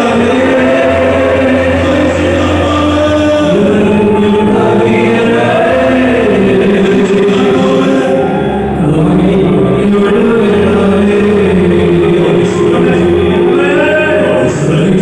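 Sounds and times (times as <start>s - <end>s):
choir-like chant: 0.0s - 15.0s
low steady drone: 0.0s - 15.0s.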